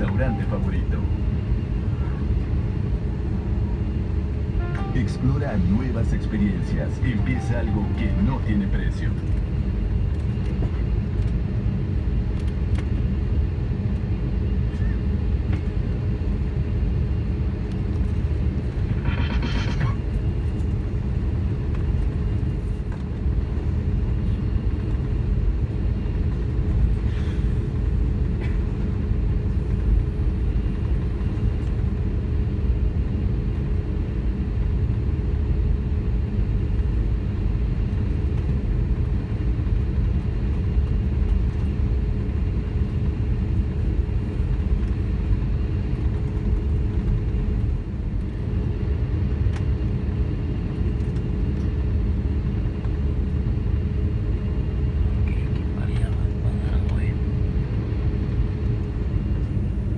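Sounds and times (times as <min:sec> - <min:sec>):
airplane cabin rumble while taxiing: 0:00.0 - 0:59.9.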